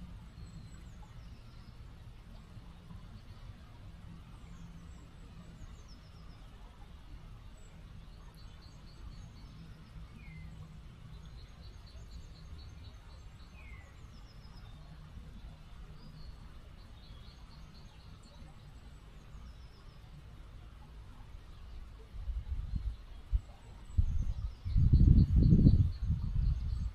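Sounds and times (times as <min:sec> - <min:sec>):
river flowing: 0:00.0 - 0:24.7.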